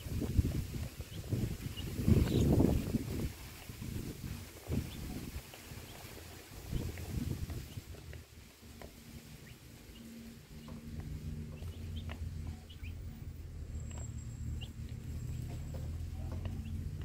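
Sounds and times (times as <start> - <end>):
chicks peeping: 0.0 - 17.0
low steady rumble: 0.0 - 17.0.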